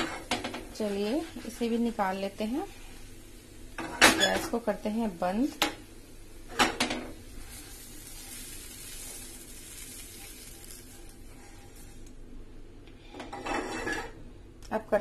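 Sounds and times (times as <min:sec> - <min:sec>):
oil sizzling in frying pan: 0:00.0 - 0:12.3.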